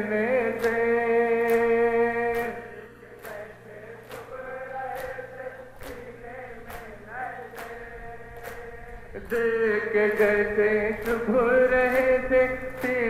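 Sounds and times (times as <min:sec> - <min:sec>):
man singing into a microphone: 0:00.0 - 0:13.0
group of men chanting: 0:02.4 - 0:13.0.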